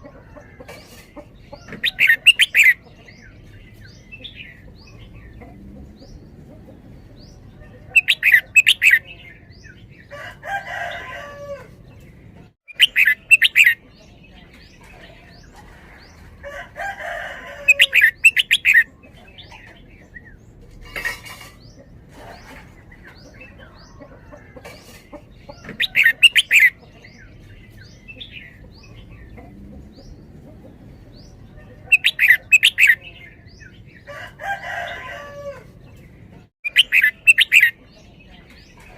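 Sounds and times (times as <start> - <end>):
bird singing bright phrases: 1.5 - 20.6, 25.4 - 38.9.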